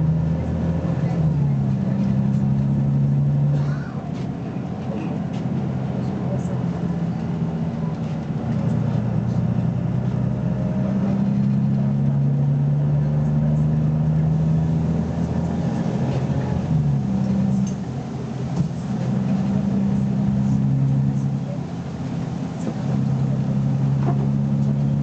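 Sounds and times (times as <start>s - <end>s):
bus engine running under load: 0.0s - 25.0s.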